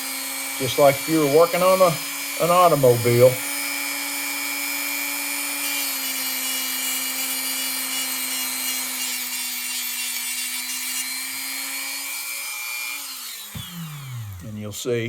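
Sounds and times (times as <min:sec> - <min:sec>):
rotary tool grinding metal: 0:00.0 - 0:14.7.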